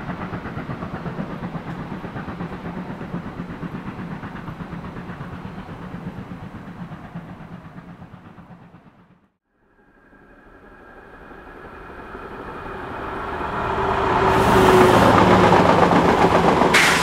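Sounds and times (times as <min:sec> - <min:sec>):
steam locomotive exhaust beats: 0:00.0 - 0:09.3, 0:10.1 - 0:17.0.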